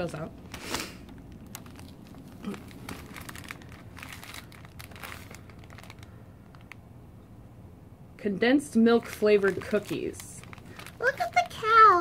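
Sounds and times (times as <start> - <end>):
plastic wrappers crinkling: 0.0 - 6.9, 8.9 - 12.0.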